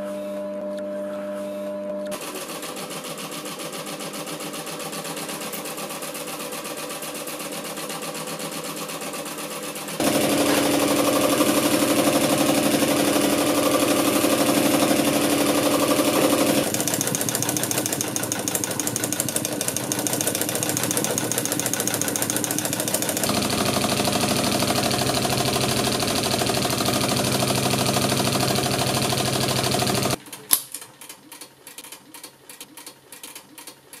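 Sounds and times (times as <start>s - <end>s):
embroidery sewing machine running: 2.1s - 30.4s.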